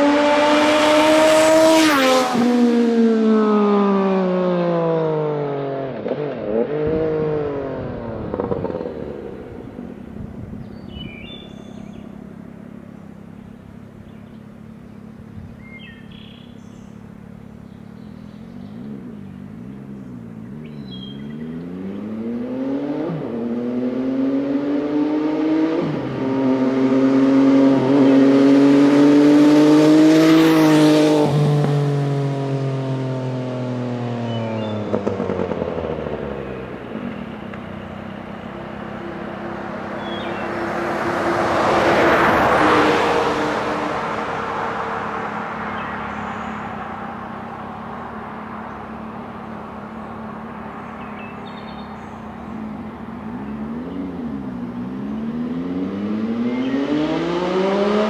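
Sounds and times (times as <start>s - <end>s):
motorcycle passing by: 0.0s - 58.0s
vehicle approaching: 0.0s - 58.0s
birds chirping: 6.1s - 31.2s, 33.3s - 58.0s.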